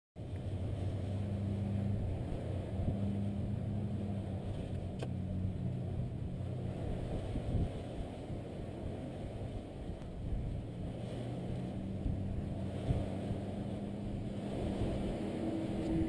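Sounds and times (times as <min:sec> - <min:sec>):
engine humming: 0:00.2 - 0:16.0.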